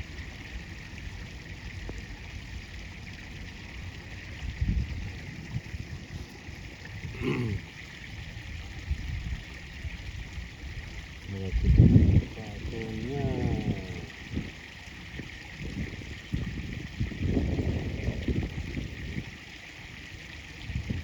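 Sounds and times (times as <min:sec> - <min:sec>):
river water flowing: 0:00.0 - 0:21.0.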